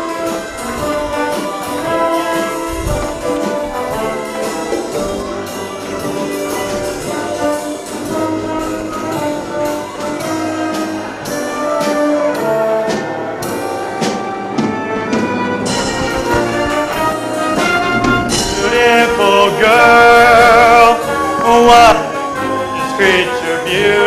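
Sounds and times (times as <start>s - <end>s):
orchestra with brass playing: 0.0s - 24.0s.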